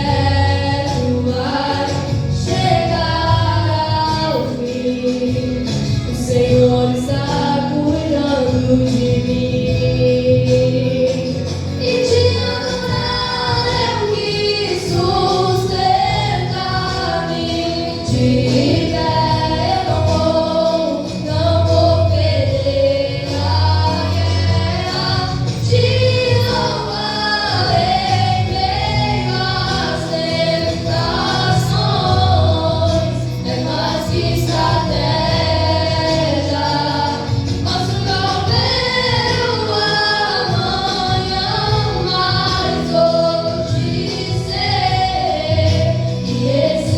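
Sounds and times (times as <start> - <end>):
girls singing worship song: 0.0 - 46.9
instrumental backing with bass: 0.0 - 46.9.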